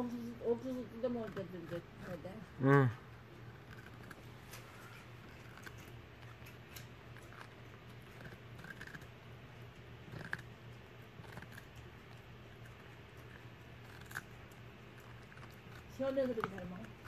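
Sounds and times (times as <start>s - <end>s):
dog crunching cucumber: 0.0s - 17.0s.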